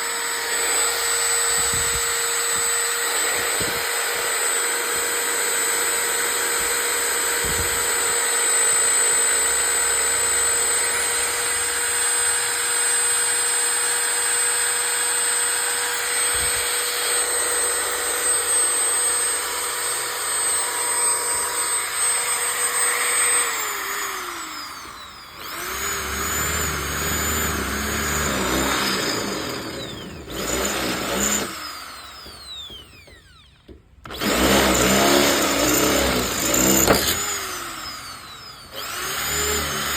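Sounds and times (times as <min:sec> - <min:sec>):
electric drill running: 0:00.0 - 0:39.9.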